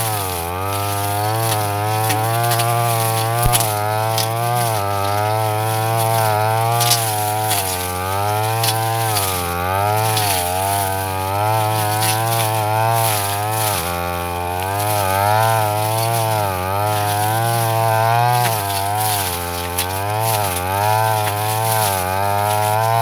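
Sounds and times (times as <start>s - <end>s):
brush cutter running at high revs: 0.0s - 23.0s.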